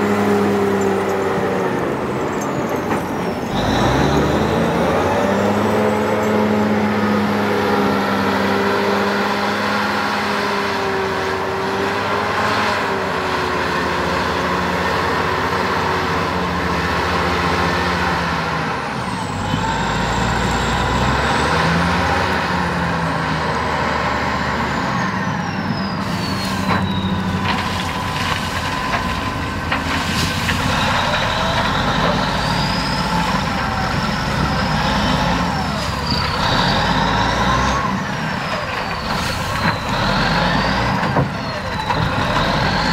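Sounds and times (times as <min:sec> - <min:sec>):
diesel engine working under load: 0:00.0 - 0:42.9.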